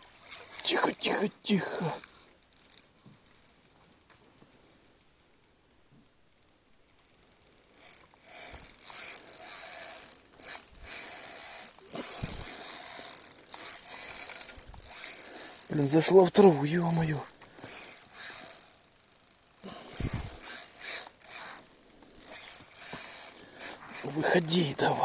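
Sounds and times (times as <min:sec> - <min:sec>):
fishing reel clicking: 0:00.0 - 0:25.0.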